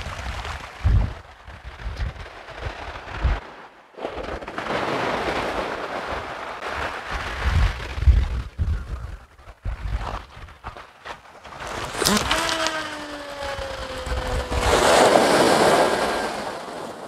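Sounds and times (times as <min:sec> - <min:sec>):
wind buffeting microphone: 0:00.0 - 0:16.6
sea washing on shingle: 0:00.0 - 0:17.0.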